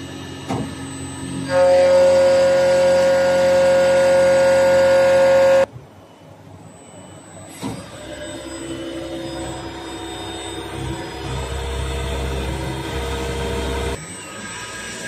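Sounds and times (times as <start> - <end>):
lathe cutting high-pitched whine: 0.0 - 5.7, 6.7 - 15.0.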